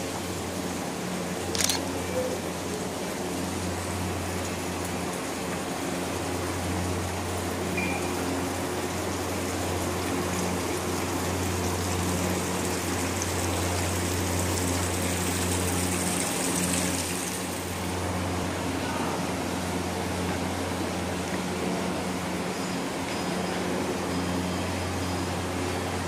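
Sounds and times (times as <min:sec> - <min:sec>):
low mechanical hum: 0:00.0 - 0:26.0
running water rushing: 0:00.0 - 0:26.0.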